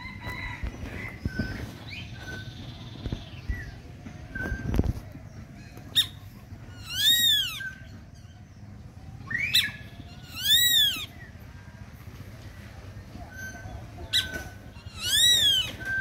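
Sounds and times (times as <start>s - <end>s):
bird calling: 0.0s - 11.6s, 13.0s - 16.0s.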